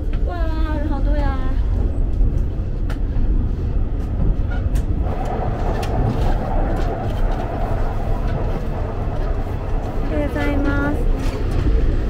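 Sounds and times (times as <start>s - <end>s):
diesel railcar rumbling: 0.0s - 12.0s.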